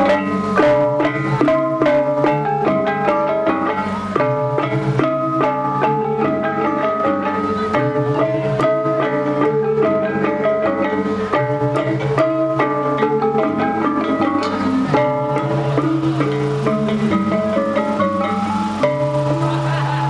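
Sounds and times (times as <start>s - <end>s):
plucked note melody: 0.0s - 20.0s
steady beat: 0.0s - 20.0s.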